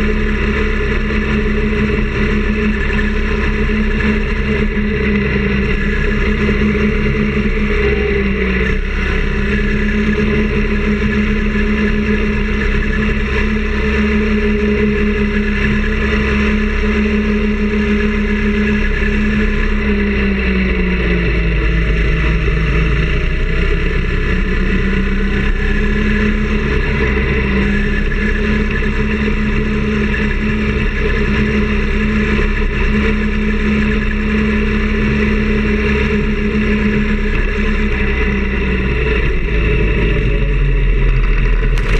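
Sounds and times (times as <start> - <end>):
small engine running: 0.0 - 41.9
wind and road noise: 0.0 - 41.9.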